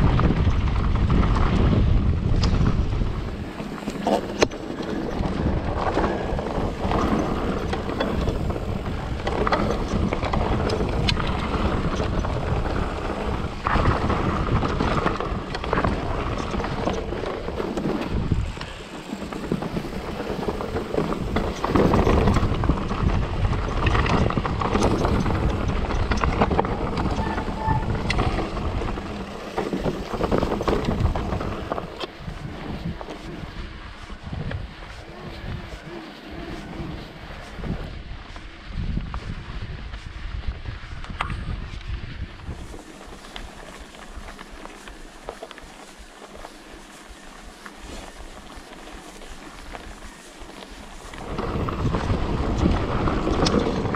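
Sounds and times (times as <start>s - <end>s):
tyres rumbling over dirt: 0.0s - 39.9s, 41.4s - 53.9s
bike rattling and knocking: 0.0s - 53.9s
wind buffeting microphone: 0.0s - 53.9s.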